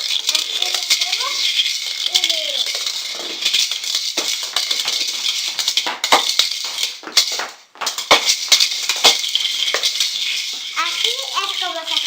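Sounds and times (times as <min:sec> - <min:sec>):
toy rolling and rattling: 0:00.0 - 0:12.0.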